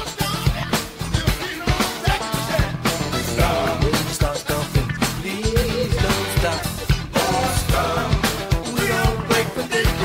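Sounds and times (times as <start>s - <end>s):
upbeat song with drum beat: 0.0s - 10.0s.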